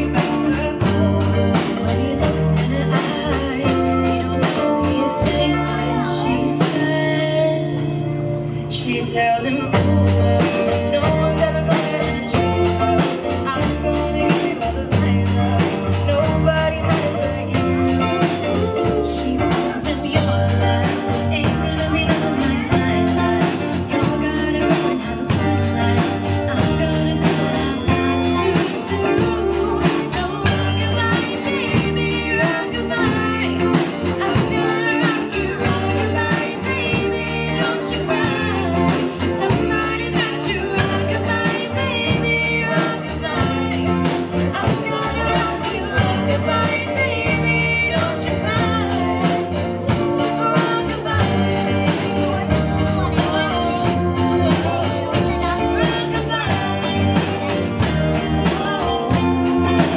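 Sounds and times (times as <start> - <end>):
bass guitar: 0.0 - 59.9
drums: 0.0 - 59.9
electric guitars: 0.0 - 59.9
woman singing: 0.0 - 59.9.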